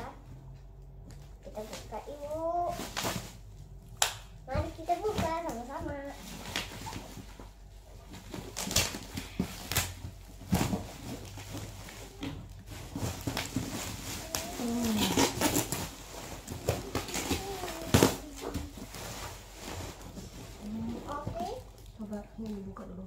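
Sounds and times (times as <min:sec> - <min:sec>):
plastic wrapping crinkling: 0:01.3 - 0:03.9, 0:04.5 - 0:23.0.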